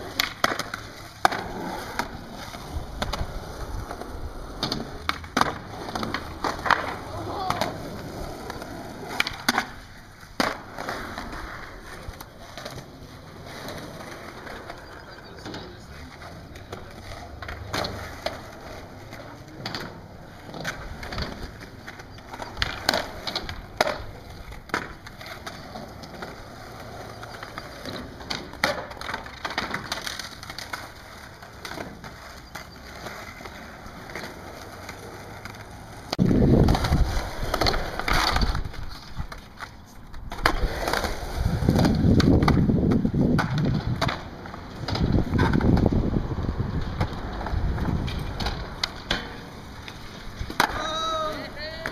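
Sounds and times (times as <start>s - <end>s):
skateboard clacking on concrete: 0.0s - 51.9s
skateboard wheels rolling: 0.0s - 51.9s.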